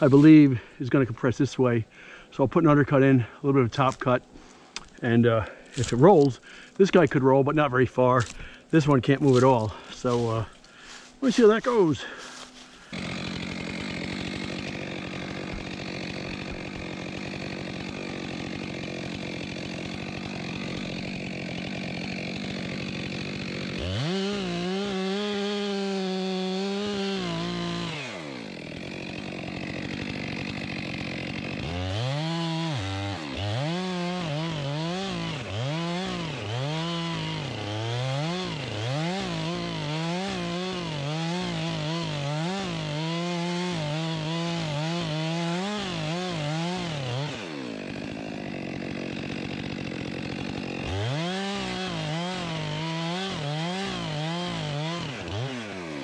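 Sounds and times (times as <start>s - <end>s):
chainsaw cutting a log: 0.0s - 0.6s, 4.7s - 7.1s, 8.2s - 56.0s.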